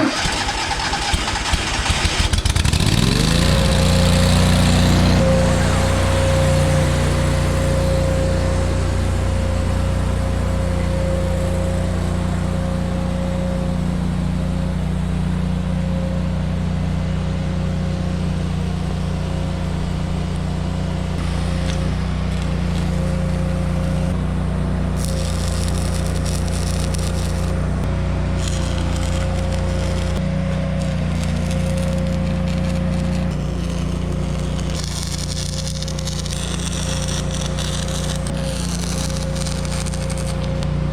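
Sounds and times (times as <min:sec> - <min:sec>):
angle grinder grinding metal: 0:00.0 - 0:15.2, 0:17.8 - 0:40.7.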